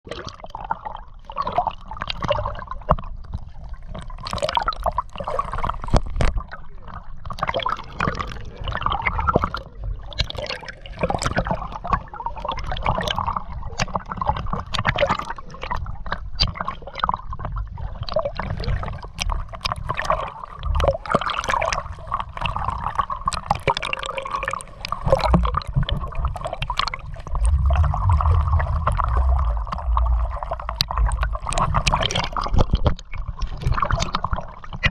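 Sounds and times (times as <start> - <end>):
water sloshing and gurgling: 0.0 - 34.9.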